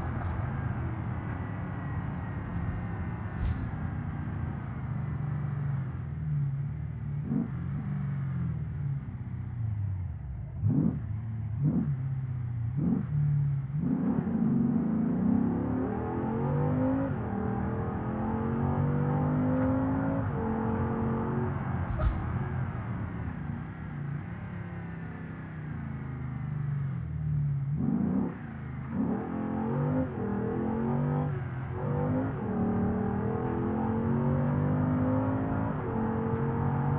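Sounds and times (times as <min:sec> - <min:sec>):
car engine from inside cabin: 0:00.0 - 0:36.9.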